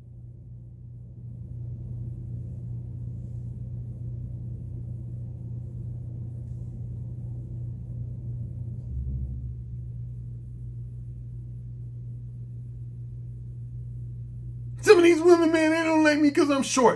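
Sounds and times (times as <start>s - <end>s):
low-pitched hum: 0.0s - 16.2s.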